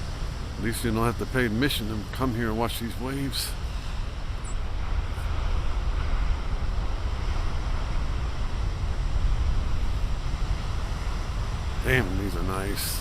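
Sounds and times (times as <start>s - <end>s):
ocean waves breaking: 0.0s - 13.0s
wind rumbling on microphone: 0.0s - 13.0s.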